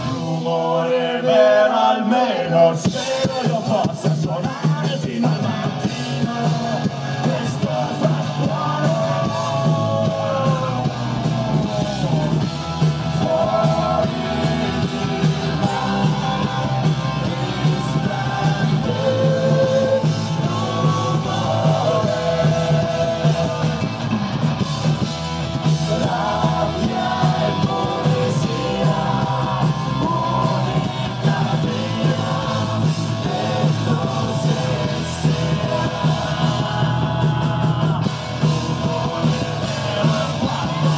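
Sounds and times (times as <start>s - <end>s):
live rock band playing: 0.0s - 0.6s, 2.8s - 40.9s
man singing: 0.0s - 24.1s, 25.6s - 40.9s.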